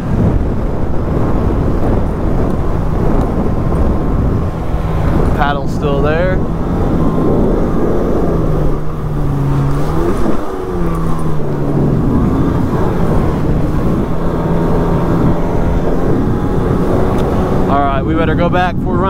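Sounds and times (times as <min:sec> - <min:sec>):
rush of wind and water spray: 0:00.0 - 0:19.0
watercraft engine running: 0:00.0 - 0:19.0.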